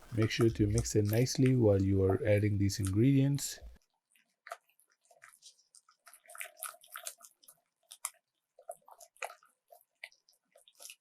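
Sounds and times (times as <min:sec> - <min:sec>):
batter stirred in bowl: 0:00.0 - 0:11.0.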